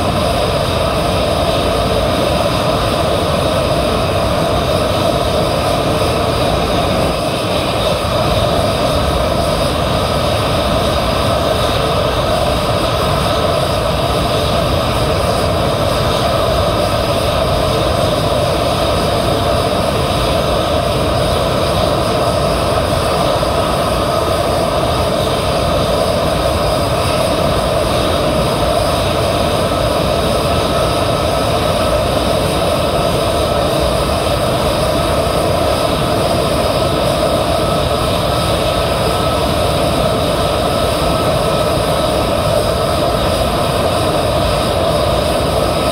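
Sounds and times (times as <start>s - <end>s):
jet engines running: 0.0s - 45.9s.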